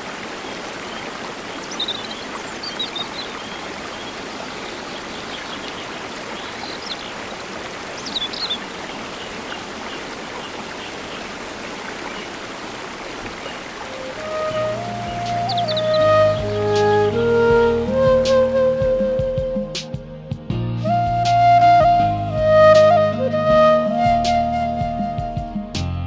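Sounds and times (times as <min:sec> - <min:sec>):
rushing water: 0:00.0 - 0:25.6.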